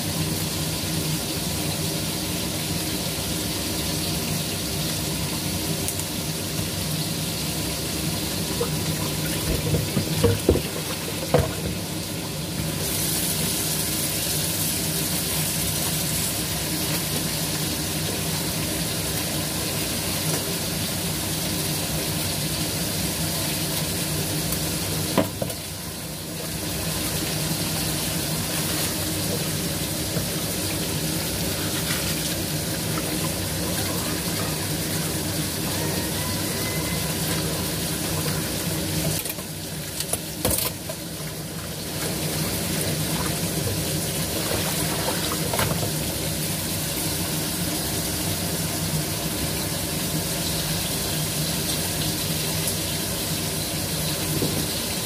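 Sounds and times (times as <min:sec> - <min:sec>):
steady hiss and hum: 0:00.0 - 0:55.0.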